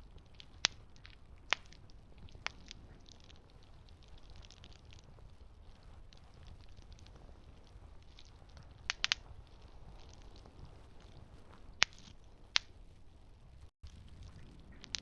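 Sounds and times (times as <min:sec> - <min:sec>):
burning wood popping: 0:00.0 - 0:15.0
campfire burning: 0:00.0 - 0:15.0.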